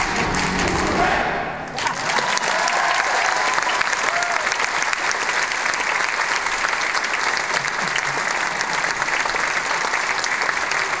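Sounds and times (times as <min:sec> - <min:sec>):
concert audience applauding: 0:00.0 - 0:11.0.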